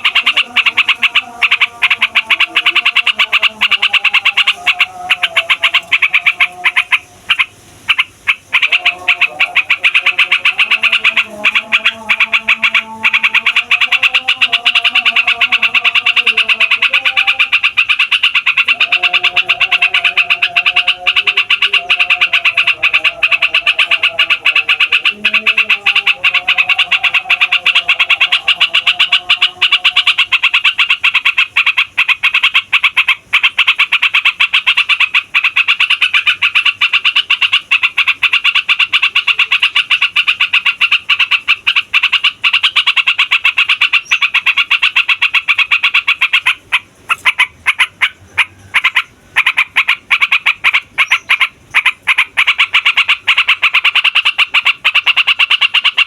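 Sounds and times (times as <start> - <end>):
bird singing rolling song: 0.0 - 56.0
lower bird calls: 0.0 - 56.0.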